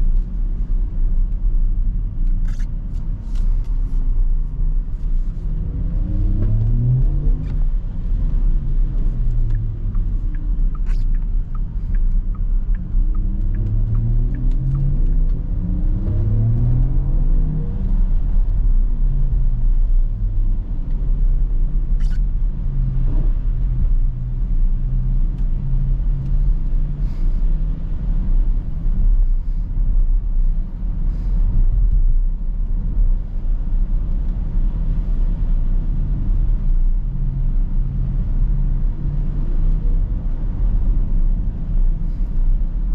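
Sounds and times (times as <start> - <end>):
road and tyre rumble: 0.0 - 42.9.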